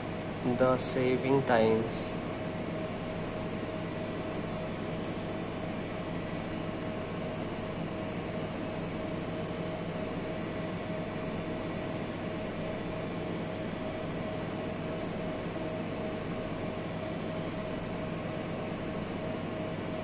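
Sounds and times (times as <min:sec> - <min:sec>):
equipment hiss and hum: 0:00.0 - 0:20.0
steady mid-pitched whine: 0:00.0 - 0:20.0.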